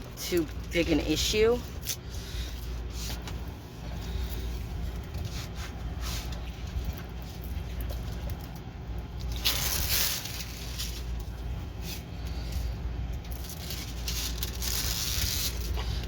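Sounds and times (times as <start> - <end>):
low hum: 0.0 - 16.0
plastic packaging rustling: 0.0 - 16.0.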